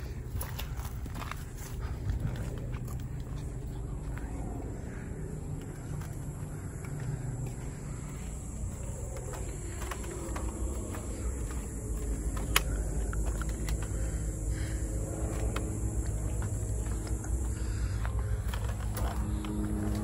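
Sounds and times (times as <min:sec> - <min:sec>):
footsteps clicking and scuffing: 0:00.0 - 0:20.0
steady low rumble: 0:00.0 - 0:20.0.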